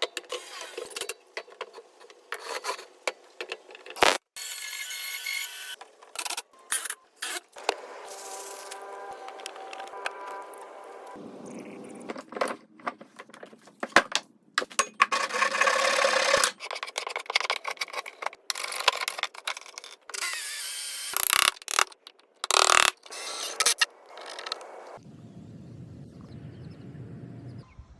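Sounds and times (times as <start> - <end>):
woodworking tool sounds: 0.1 - 13.6, 14.7 - 25.0.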